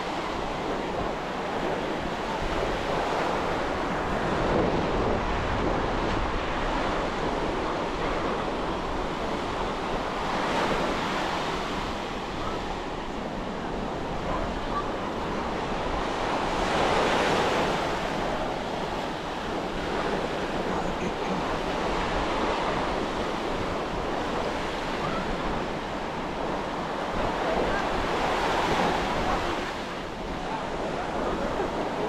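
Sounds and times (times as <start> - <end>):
ocean surf breaking: 0.0 - 32.0
wind rumbling on microphone: 0.0 - 32.0.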